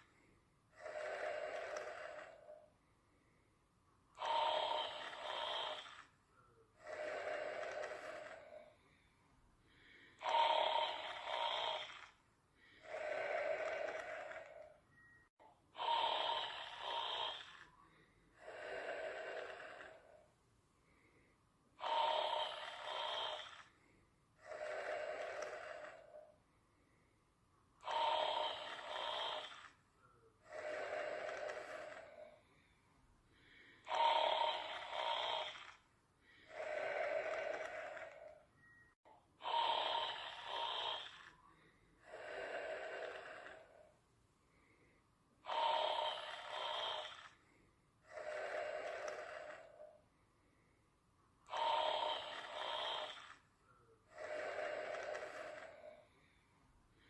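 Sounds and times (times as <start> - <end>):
person snoring: 0.0 - 2.7, 4.1 - 6.1, 6.8 - 9.0, 9.7 - 14.8, 15.7 - 20.3, 20.9 - 26.4, 27.8 - 29.8, 30.4 - 32.7, 33.3 - 38.5, 39.4 - 50.0, 51.4 - 53.4, 54.1 - 56.4.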